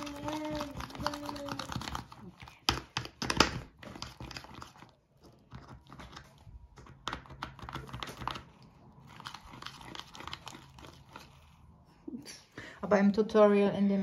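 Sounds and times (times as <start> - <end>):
spoon mashing slime in cup: 0.0 - 11.8.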